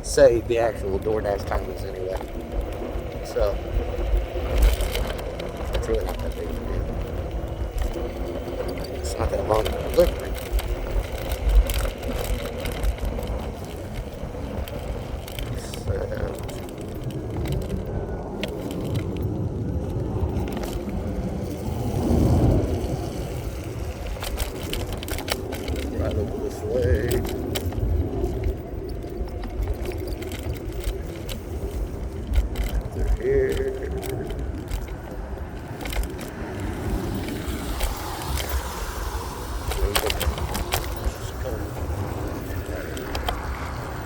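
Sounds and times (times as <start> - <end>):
electric scooter rumble: 0.0 - 44.0
road noise: 0.0 - 44.0
wind noise on microphone: 0.0 - 44.0
sharp clicks: 0.2 - 44.0.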